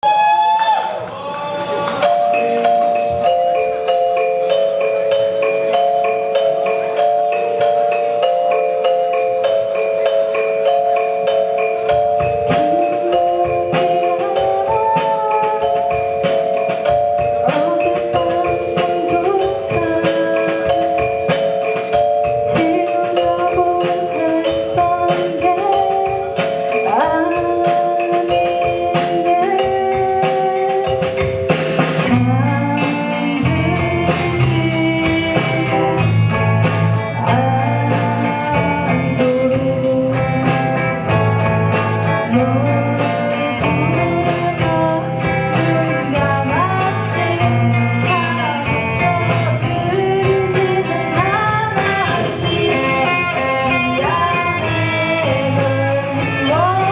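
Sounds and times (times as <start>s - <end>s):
bass line: 0.0s - 56.9s
sustained guitar chords: 1.9s - 56.9s.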